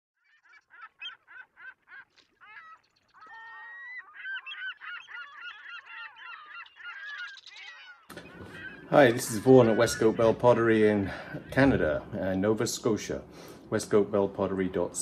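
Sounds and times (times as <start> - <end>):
geese honking: 0.3 - 12.6.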